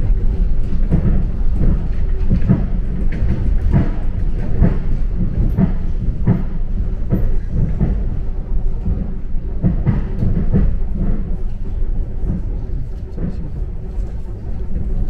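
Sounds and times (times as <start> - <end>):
train rumbling: 0.0 - 15.0
wheels knocking on rails: 0.1 - 13.8.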